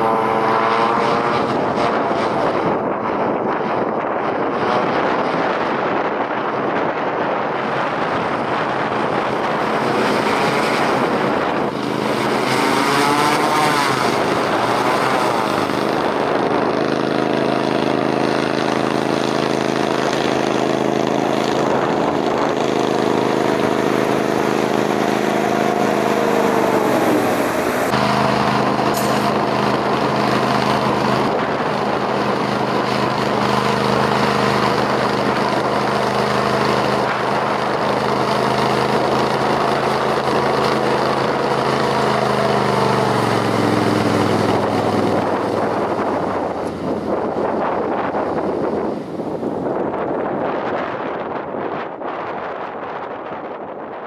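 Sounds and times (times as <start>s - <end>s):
hovercraft engine and propeller: 0.0s - 54.0s.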